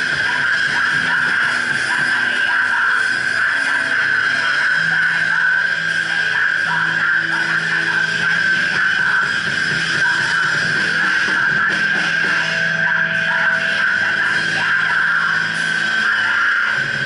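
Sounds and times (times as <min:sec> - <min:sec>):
distorted live band with electric guitar: 0:00.0 - 0:17.0.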